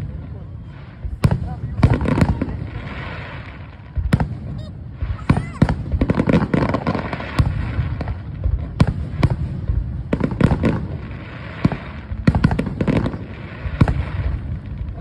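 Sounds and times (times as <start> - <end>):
fireworks bangs: 0.0 - 15.0
steady noisy hiss: 0.0 - 15.0.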